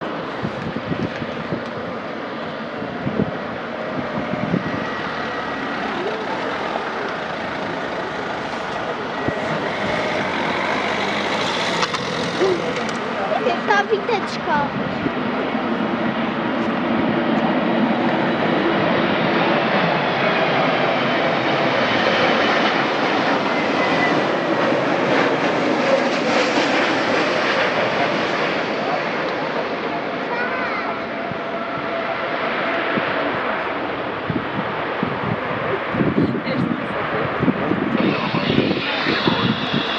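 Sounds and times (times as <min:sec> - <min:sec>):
airliner engines rushing: 0:00.0 - 0:39.9
wind gusting on microphone: 0:00.0 - 0:39.9.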